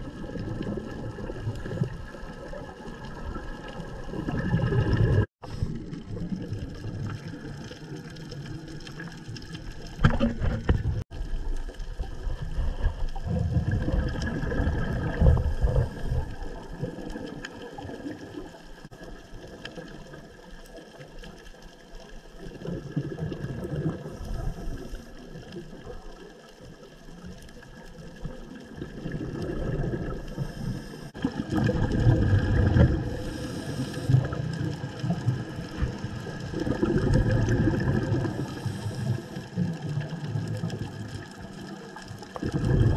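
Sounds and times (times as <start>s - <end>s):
muffled underwater rumbling: 0.0s - 42.9s.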